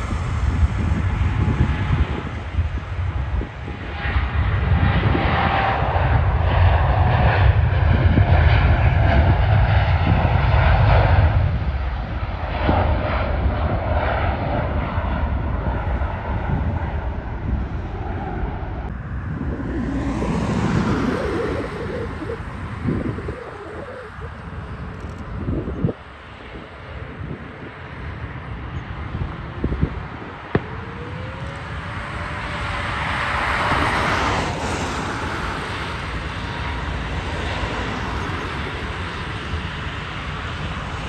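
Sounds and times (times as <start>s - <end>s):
jet engines rumbling past: 0.0s - 41.0s.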